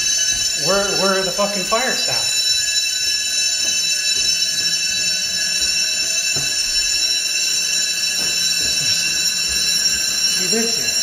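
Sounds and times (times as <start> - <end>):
fire alarm bells ringing: 0.0 - 11.0.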